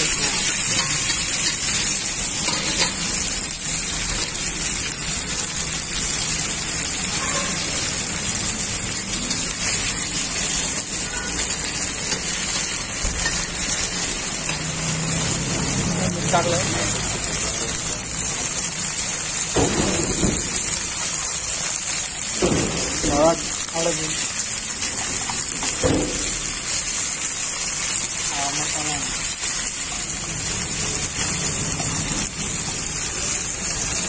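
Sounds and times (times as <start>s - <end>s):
oil sizzling in a wok: 0.0s - 34.0s.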